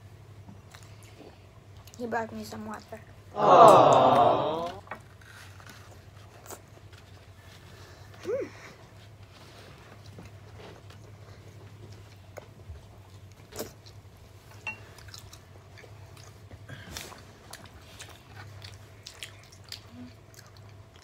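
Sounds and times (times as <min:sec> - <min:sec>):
child chewing food: 0:00.3 - 0:03.2, 0:04.1 - 0:21.0.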